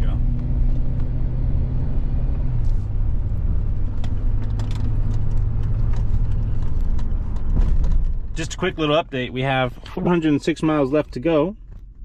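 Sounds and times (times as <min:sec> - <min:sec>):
engine and road drone: 0:00.0 - 0:12.0.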